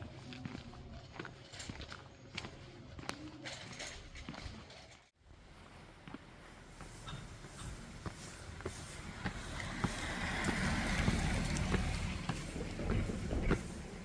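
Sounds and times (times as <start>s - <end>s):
footsteps on a trail: 0.0s - 14.0s.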